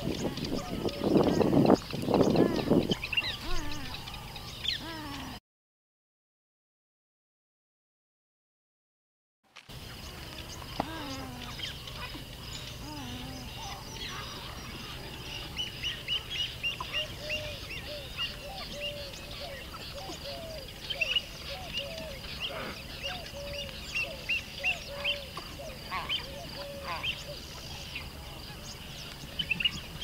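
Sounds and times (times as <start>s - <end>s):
birds calling: 0.0s - 5.4s, 9.7s - 30.0s.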